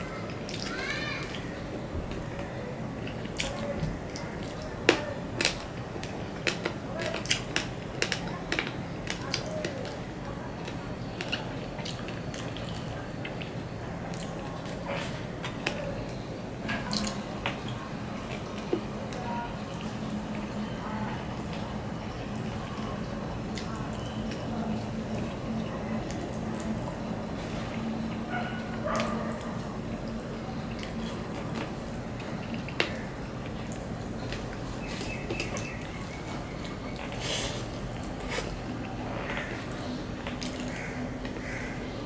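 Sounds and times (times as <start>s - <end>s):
wet chewing: 0.0s - 15.9s, 22.3s - 41.7s.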